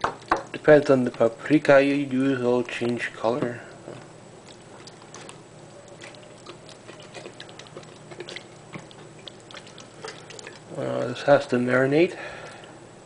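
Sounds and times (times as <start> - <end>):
hands squishing wet marinade: 0.0 - 12.7.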